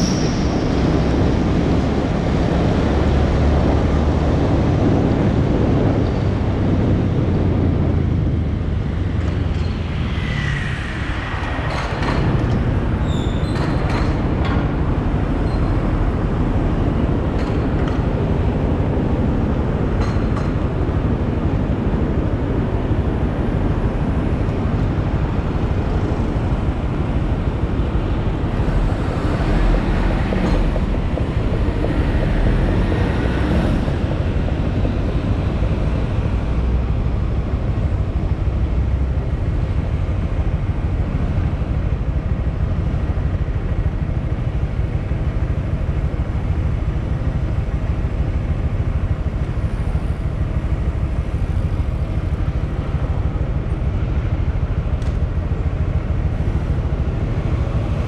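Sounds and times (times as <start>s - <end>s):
road noise rumble: 0.0s - 58.0s.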